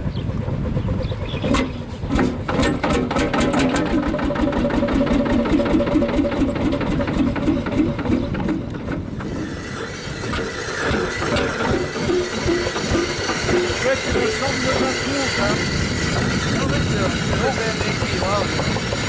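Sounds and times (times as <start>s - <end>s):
single-cylinder engine running: 0.0s - 19.0s.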